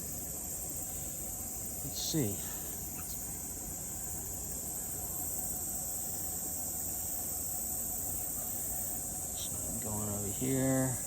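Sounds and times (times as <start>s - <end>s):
insects buzzing: 0.0s - 11.0s
low even hiss: 0.0s - 11.0s.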